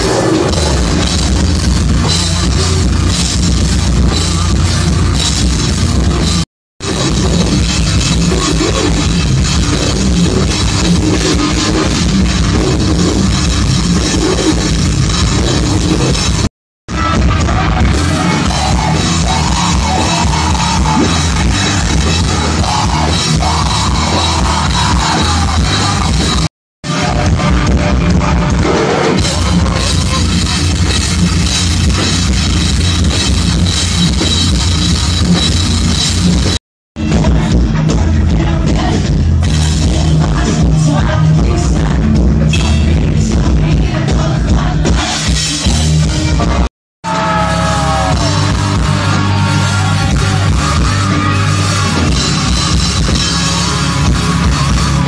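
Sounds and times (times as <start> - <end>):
live metal band playing: 0.0 - 55.0.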